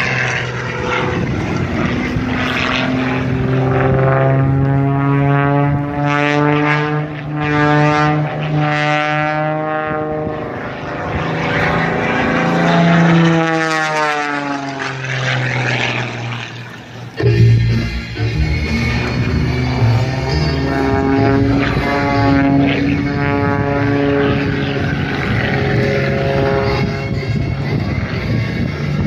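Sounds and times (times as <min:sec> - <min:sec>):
propeller airplane flying: 0:00.0 - 0:29.0.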